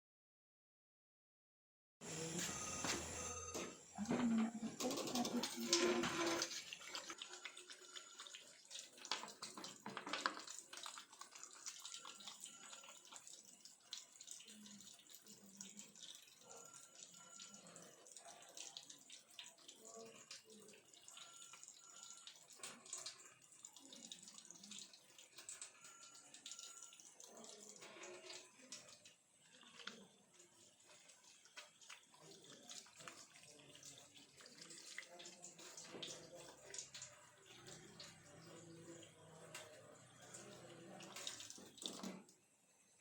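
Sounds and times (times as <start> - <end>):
running and splashing water: 3.9 - 42.4.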